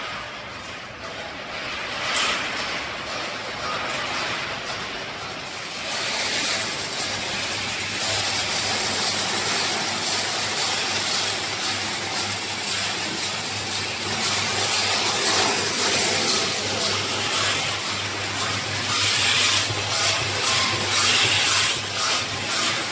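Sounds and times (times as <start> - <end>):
production line machinery humming: 0.0 - 22.9.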